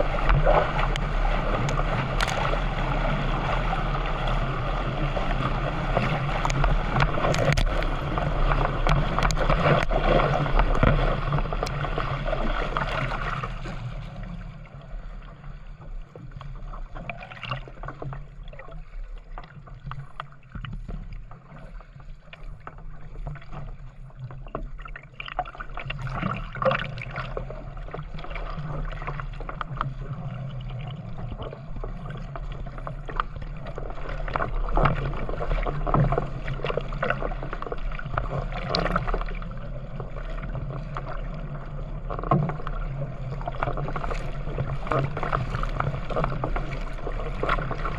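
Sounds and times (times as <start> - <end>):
water splashing around paddle: 0.0 - 47.9.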